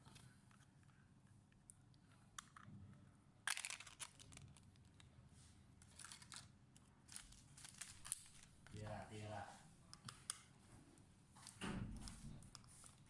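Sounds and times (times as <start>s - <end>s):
faint crinkling and scraping: 0.0s - 13.0s.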